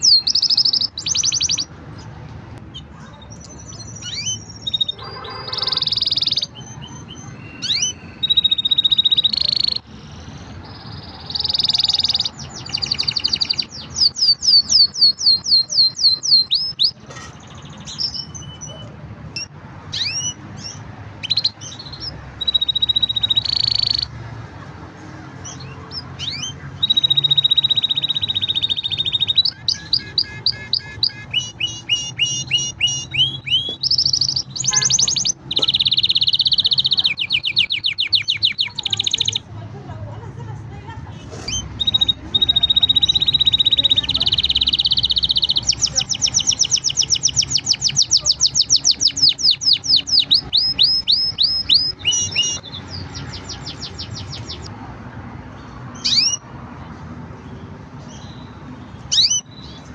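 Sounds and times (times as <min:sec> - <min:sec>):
canary singing: 0:00.0 - 0:39.7, 0:41.4 - 0:54.7, 0:55.5 - 0:59.9.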